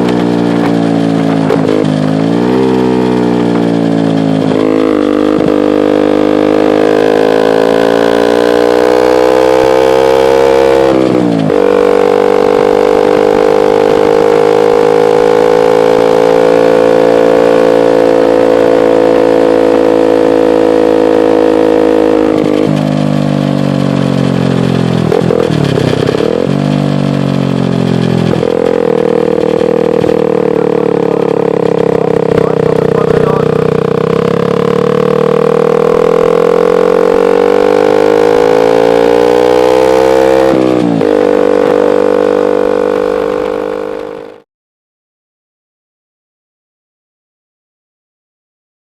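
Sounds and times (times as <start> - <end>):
motorcycle engine revving: 0.0 - 44.4.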